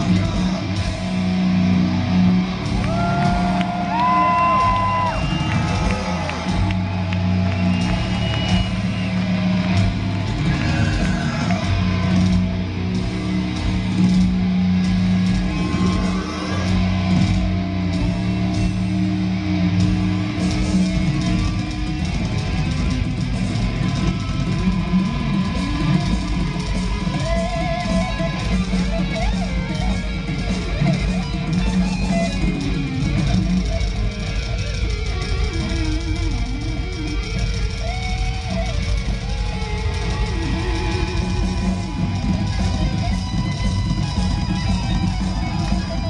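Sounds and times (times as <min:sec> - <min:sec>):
heavy metal band playing: 0:00.0 - 0:46.0.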